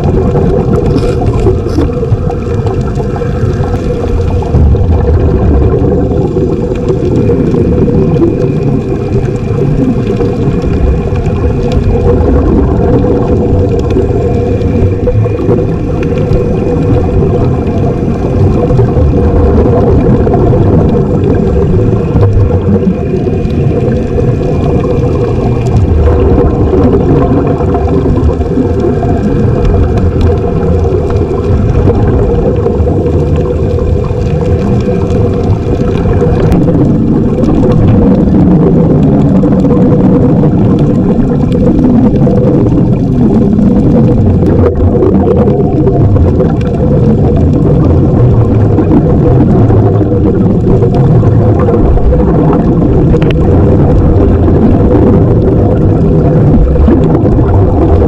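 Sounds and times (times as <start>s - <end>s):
muffled underwater rumble: 0.0s - 58.0s.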